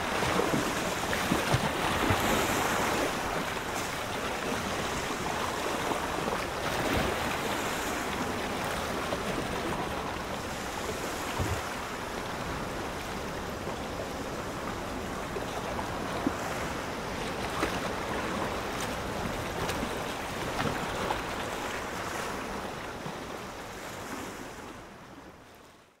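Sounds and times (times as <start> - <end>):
ocean waves rushing: 0.0 - 22.7.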